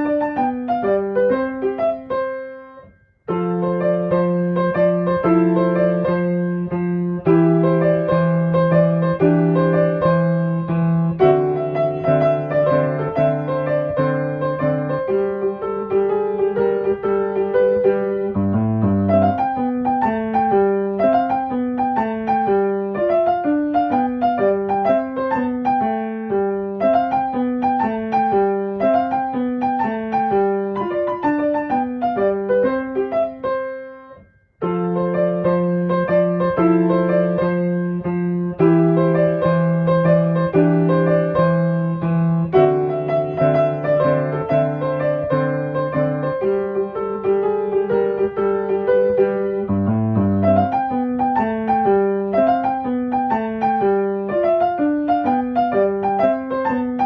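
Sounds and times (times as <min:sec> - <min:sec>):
piano music: 0:00.0 - 0:57.0.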